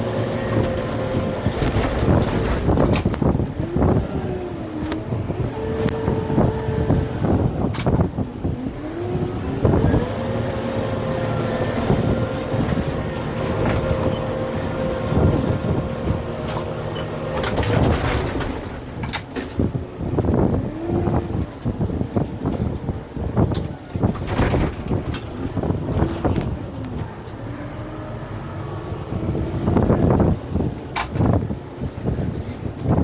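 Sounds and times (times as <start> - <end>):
tractor diesel engine working hard: 0.0 - 33.0.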